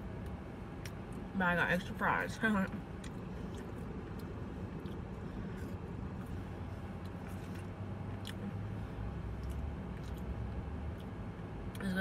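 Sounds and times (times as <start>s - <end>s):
vehicle rumble inside car: 0.0s - 12.0s.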